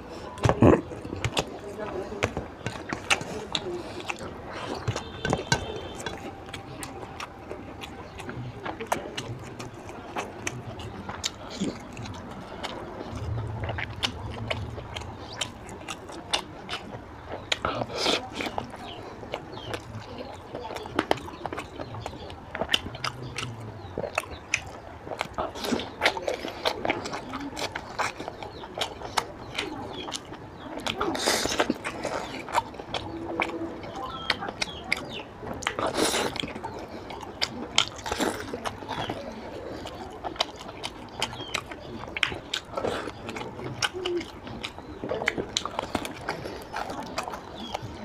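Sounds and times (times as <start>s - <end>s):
person chewing and smacking: 0.0s - 48.0s.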